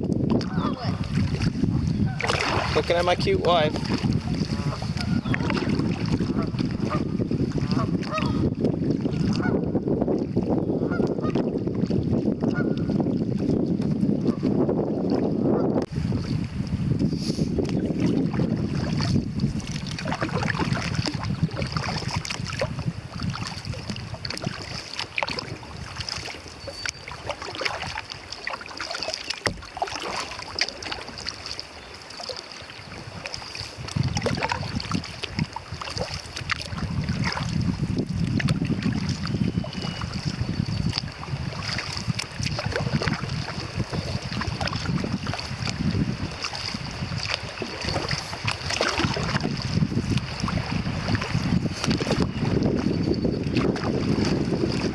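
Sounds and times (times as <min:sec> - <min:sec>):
wind buffeting microphone: 0:00.0 - 0:31.5, 0:32.7 - 0:54.9
kayak paddles splashing water: 0:00.0 - 0:54.9.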